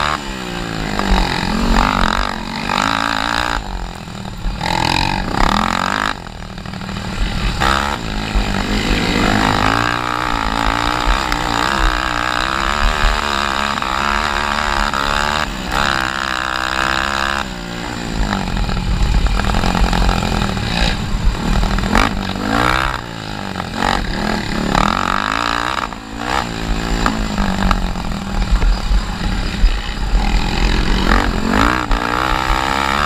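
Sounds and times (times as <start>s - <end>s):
quad engine racing: 0.0s - 33.0s.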